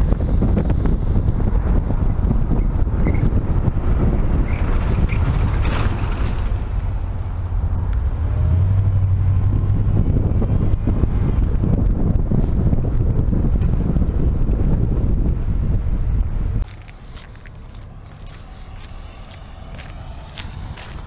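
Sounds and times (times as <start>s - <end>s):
low engine drone: 0.0s - 21.0s
vehicle road rumble: 0.0s - 21.0s
wind buffeting microphone: 0.0s - 21.0s.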